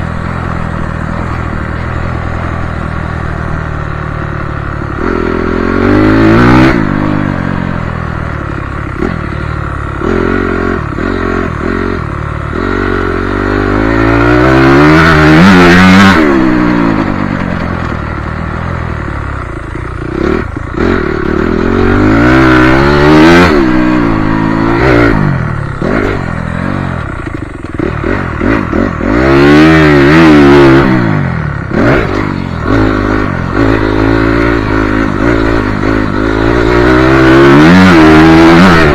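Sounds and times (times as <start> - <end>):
clatter: 0.0 - 38.9
motocross bike engine revving: 0.0 - 38.9.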